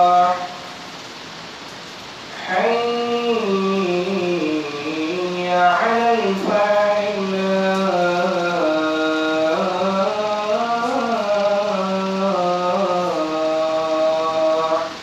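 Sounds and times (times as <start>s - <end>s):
person chanting melodically: 0.0s - 0.8s, 2.3s - 15.0s.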